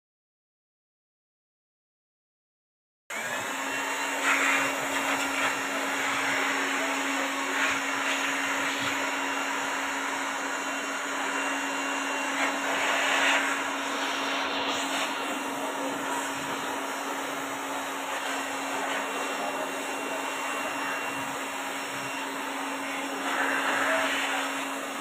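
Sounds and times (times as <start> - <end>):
electric air blower running: 3.1 - 25.0.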